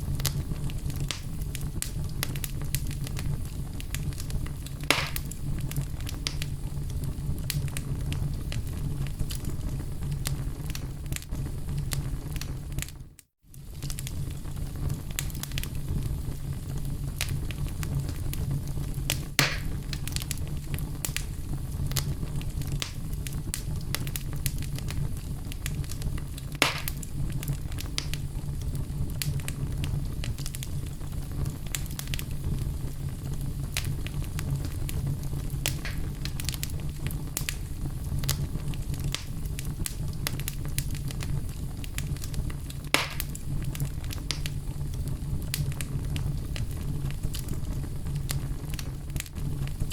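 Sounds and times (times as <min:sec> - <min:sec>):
fire crackling: 0:00.0 - 0:49.9
fire popping: 0:00.0 - 0:49.9.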